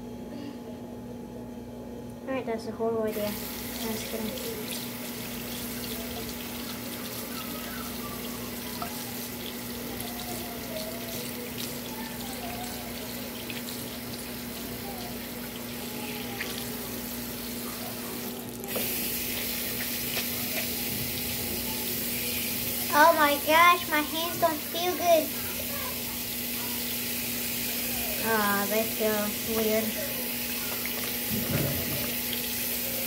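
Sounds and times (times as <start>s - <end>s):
tap water running into sink: 3.3s - 33.0s.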